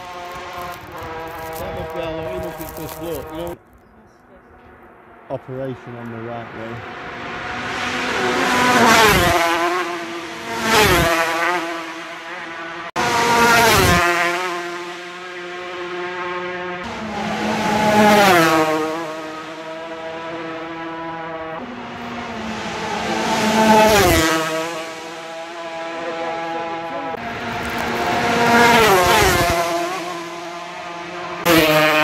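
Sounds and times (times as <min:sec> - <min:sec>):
racing motorcycles passing: 0:00.0 - 0:03.6, 0:04.4 - 0:32.0.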